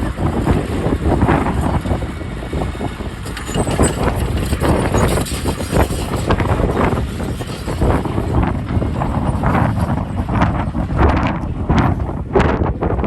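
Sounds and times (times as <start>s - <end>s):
diesel earthmoving machinery rumbling: 0.0s - 13.0s.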